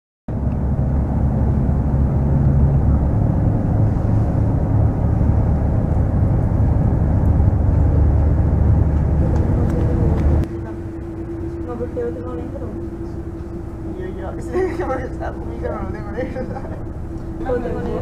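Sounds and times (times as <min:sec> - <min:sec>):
boat engine low rumble: 0:00.3 - 0:18.0.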